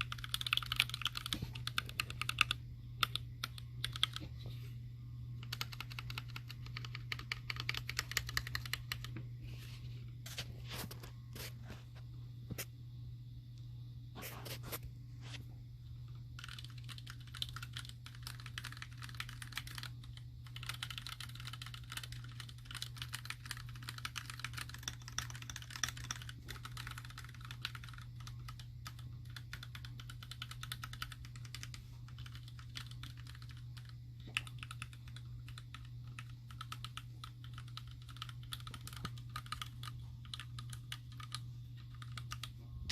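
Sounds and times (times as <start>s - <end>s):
fast typing on mechanical keyboard: 0.0s - 4.2s, 5.4s - 9.1s, 16.1s - 42.6s
steady low hum: 0.0s - 42.9s.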